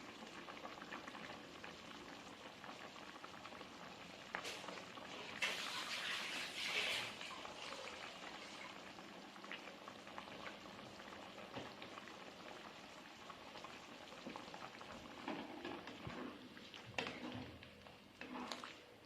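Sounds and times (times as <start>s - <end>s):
food simmering in a pan: 0.0s - 19.0s.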